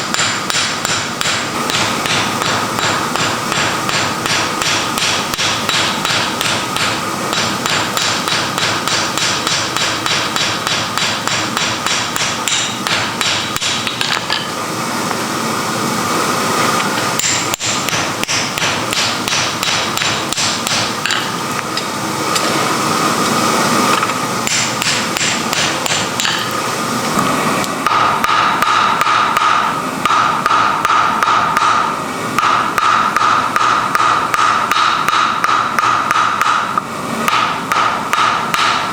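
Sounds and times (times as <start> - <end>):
hammer blows forging iron: 0.0 - 14.6, 16.8 - 22.5, 23.9 - 26.6, 27.8 - 38.9.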